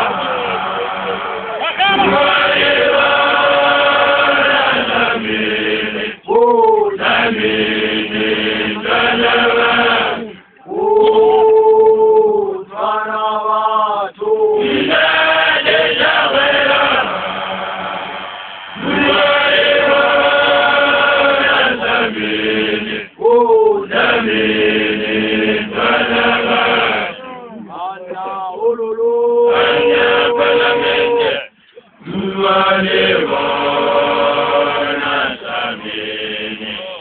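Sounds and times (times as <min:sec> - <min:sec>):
group of voices chanting: 0:00.0 - 0:27.7, 0:28.6 - 0:37.0.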